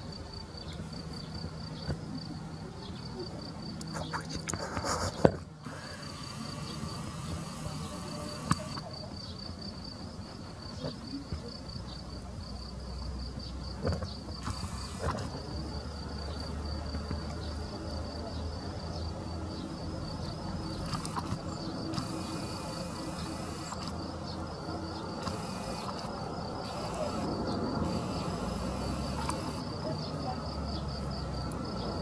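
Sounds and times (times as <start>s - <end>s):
insect chirping: 0.0s - 32.0s.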